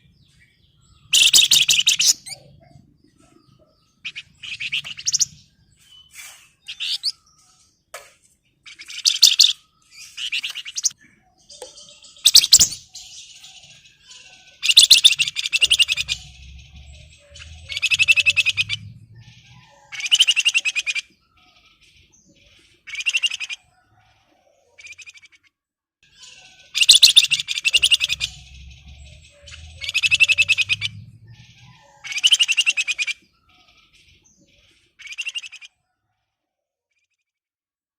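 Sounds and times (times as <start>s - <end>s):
bird chattering song: 0.0s - 35.8s.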